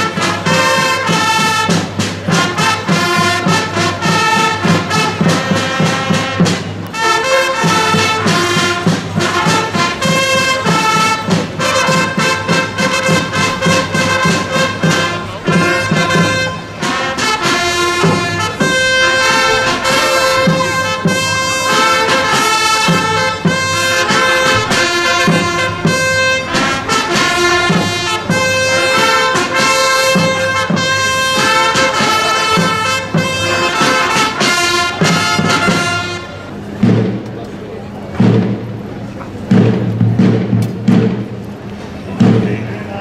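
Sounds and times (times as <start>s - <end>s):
herald trumpets fanfare: 0.0s - 36.6s
low regular beats: 1.9s - 36.0s, 36.6s - 43.0s.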